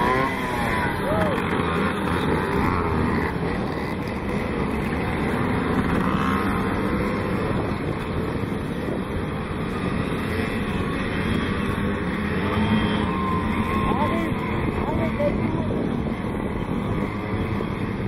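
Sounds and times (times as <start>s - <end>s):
moped engines buzzing: 0.0s - 18.0s.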